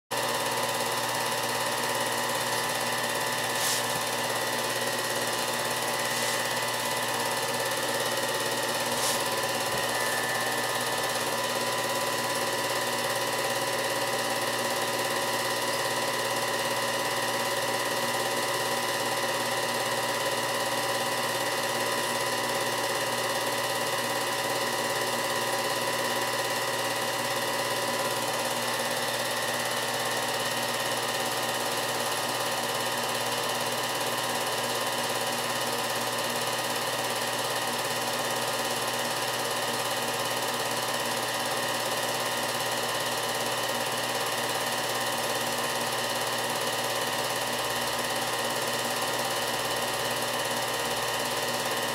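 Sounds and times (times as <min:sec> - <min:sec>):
film projector whirring: 0:00.1 - 0:51.9.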